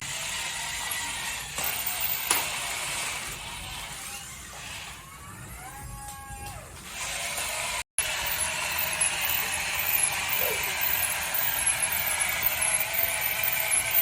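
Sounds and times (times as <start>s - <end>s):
toy car motors whirring: 0.0s - 6.0s, 6.7s - 14.0s.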